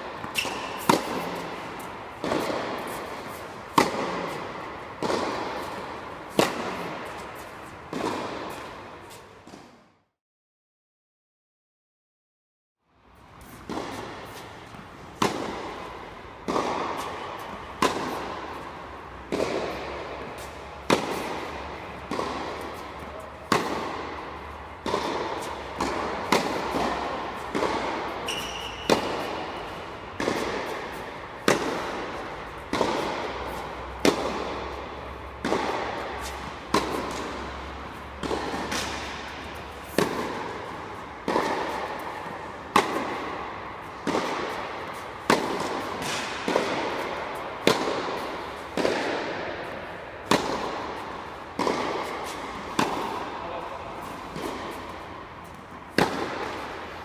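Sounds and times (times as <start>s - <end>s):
tennis racket hitting ball: 0.0s - 9.9s, 13.2s - 57.0s.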